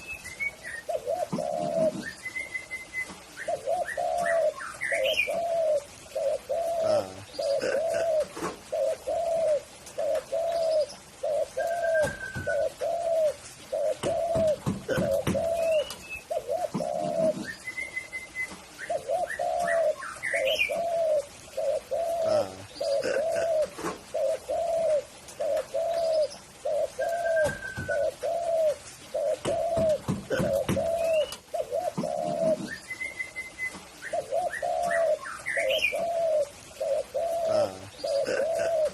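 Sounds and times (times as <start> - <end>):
birds chirping: 0.0 - 38.9
dove cooing: 0.0 - 38.9.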